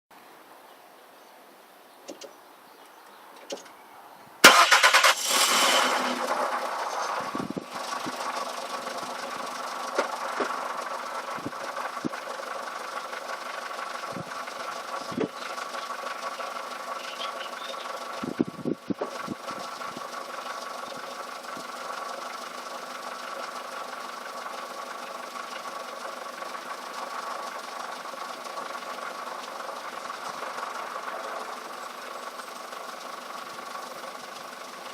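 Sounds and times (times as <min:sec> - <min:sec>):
car engine cranking and idling: 0:04.4 - 0:34.9.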